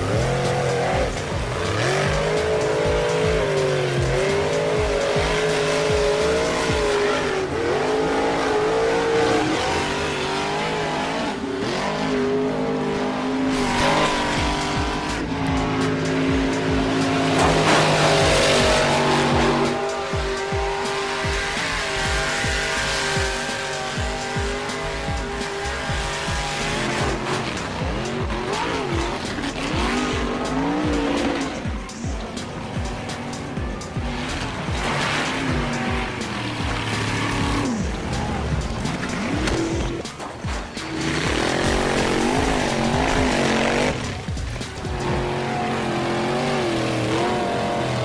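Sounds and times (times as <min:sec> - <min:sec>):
background music with beat: 0:00.0 - 0:48.0
engine revving: 0:00.0 - 0:48.0.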